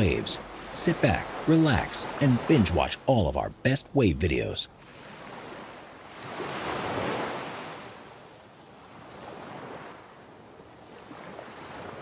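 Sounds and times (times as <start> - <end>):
ocean waves washing: 0.0 - 12.0.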